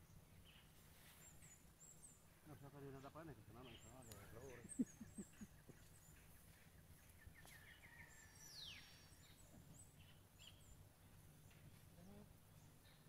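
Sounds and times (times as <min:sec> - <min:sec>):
low steady background: 0:00.0 - 0:13.0
wild bird calls: 0:00.0 - 0:13.0.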